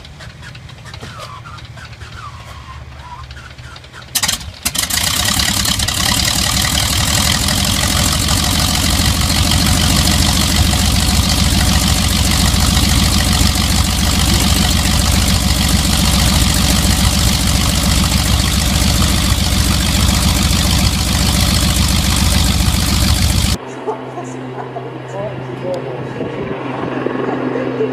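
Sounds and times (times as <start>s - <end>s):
radial aircraft engine idling: 0.0s - 23.6s.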